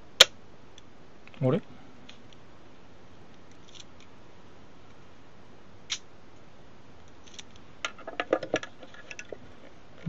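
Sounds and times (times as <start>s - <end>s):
low hiss: 0.0s - 10.0s.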